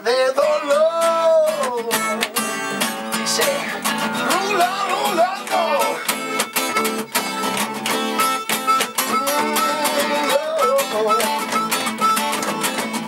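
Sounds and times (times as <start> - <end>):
acoustic guitars strumming: 0.0 - 13.0
harmonica bending notes: 0.1 - 13.0.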